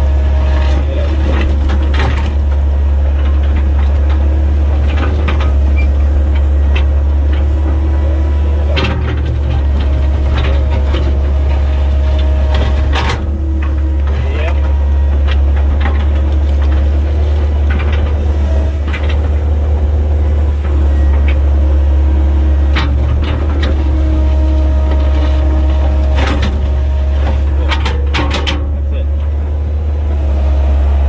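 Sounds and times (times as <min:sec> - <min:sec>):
excavator engine drone: 0:00.0 - 0:31.0.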